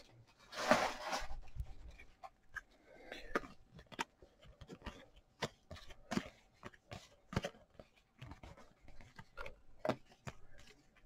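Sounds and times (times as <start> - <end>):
cards and wrappers rustling: 0.0 - 11.0.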